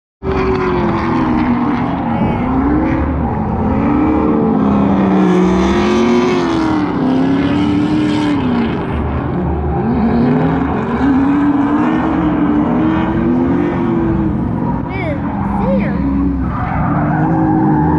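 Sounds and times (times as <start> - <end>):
car engines revving: 0.2 - 17.9.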